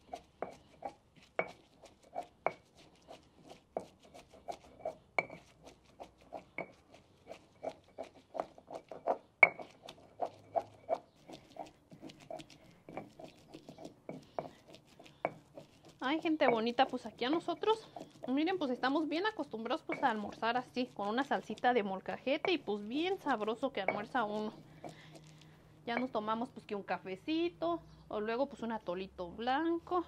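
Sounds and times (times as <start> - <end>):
stone pestle pounding and grinding: 0.0 - 26.4.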